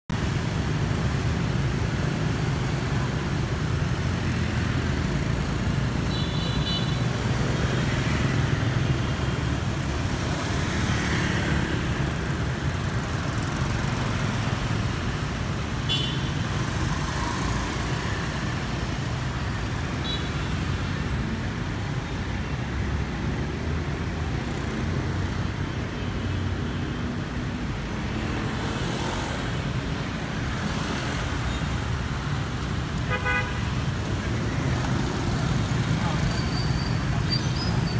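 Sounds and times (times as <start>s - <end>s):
scooter and car engines passing: 6.9s - 37.9s.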